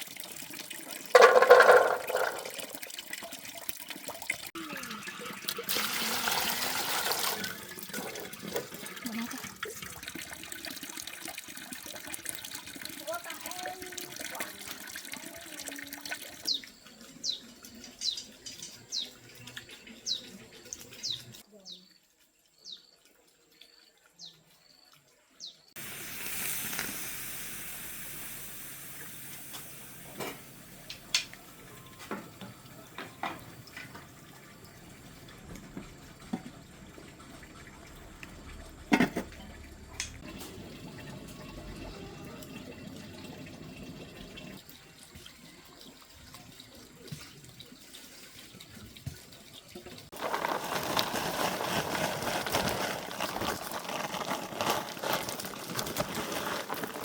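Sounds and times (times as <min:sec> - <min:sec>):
running water: 0:00.0 - 0:21.4, 0:22.2 - 0:57.0.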